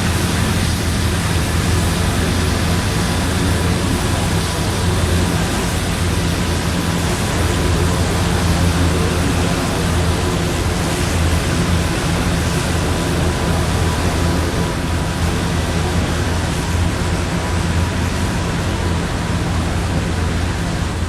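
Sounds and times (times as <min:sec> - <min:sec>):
heavy rain: 0:00.0 - 0:21.0
strong wind: 0:00.0 - 0:21.0.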